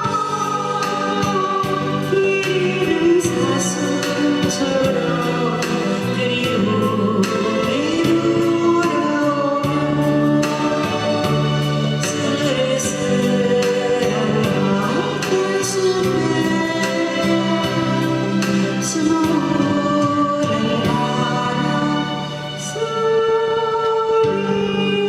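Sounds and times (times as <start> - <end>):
people singing: 0.0 - 25.0.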